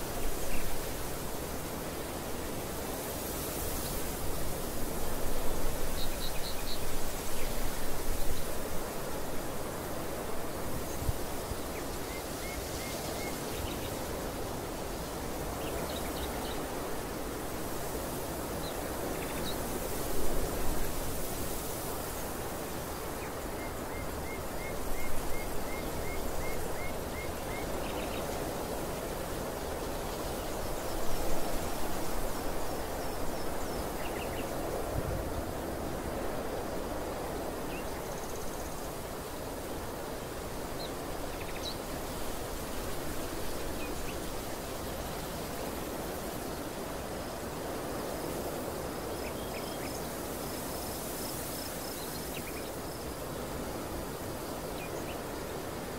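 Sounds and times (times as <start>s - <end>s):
wind: 0.0s - 55.9s.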